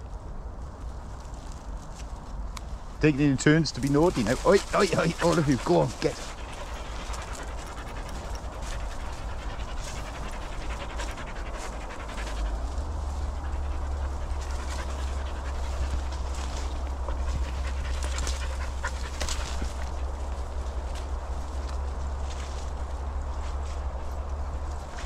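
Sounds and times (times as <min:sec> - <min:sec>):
dog panting: 0:03.8 - 0:25.0
footsteps on path: 0:03.8 - 0:25.0.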